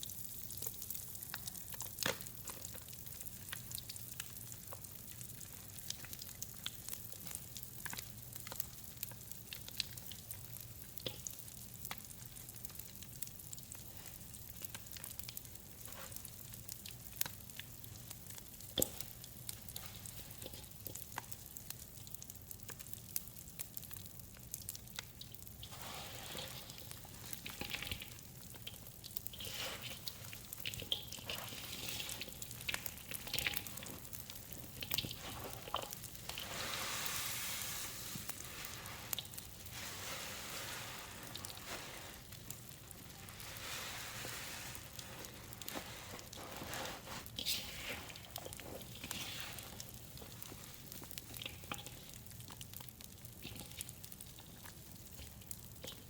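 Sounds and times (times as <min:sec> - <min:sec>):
bath crackles popping and crackling: 0:00.0 - 0:56.0.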